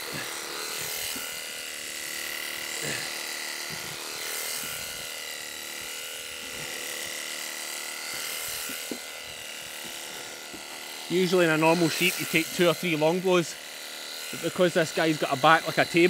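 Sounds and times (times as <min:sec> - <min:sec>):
electric shears whining: 0:00.0 - 0:16.0.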